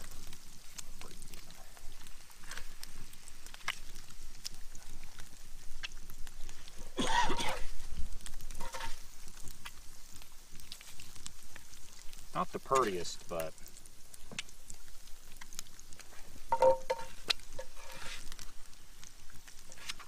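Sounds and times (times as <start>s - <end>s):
spatula working in a pan: 0.0s - 13.5s, 14.1s - 20.0s
eggs sizzling in a skillet: 0.0s - 20.0s.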